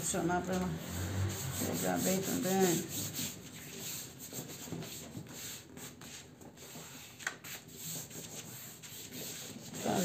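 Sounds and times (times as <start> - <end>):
palms scraping on paper: 0.5 - 10.0.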